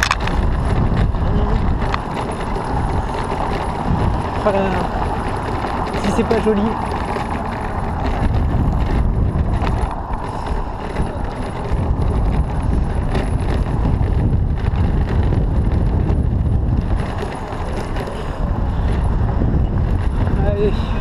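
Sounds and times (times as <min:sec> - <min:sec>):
bicycle knocks: 0:00.0 - 0:20.4
wind rumble on microphone: 0:00.0 - 0:21.0.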